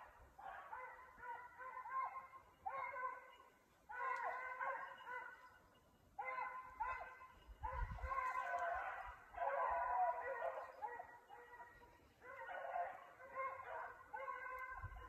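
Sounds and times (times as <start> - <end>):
hunting dogs baying: 0.0 - 15.0.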